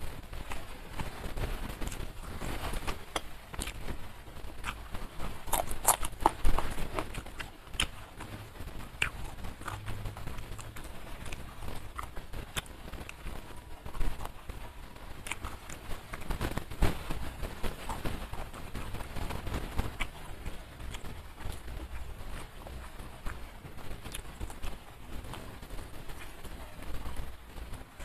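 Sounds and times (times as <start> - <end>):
wet chewing and lip-smacking: 1.8 - 27.2.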